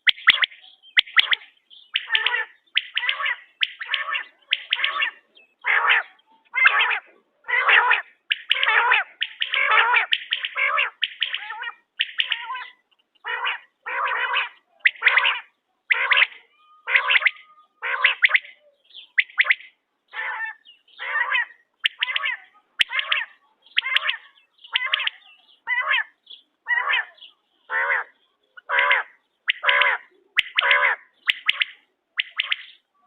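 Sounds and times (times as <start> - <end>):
quail rasping calls: 0.0 - 32.9.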